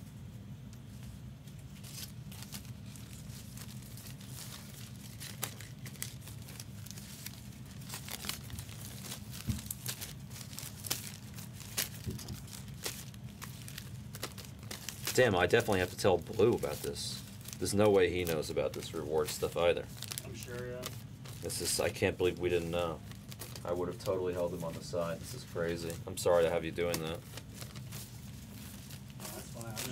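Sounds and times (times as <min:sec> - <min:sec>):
plastic wrappers crinkling: 0:00.9 - 0:29.9.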